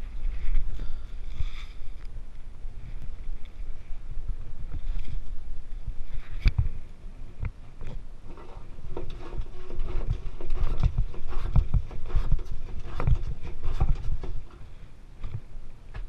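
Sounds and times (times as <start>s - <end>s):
rustling: 0.0s - 7.0s, 7.6s - 16.0s.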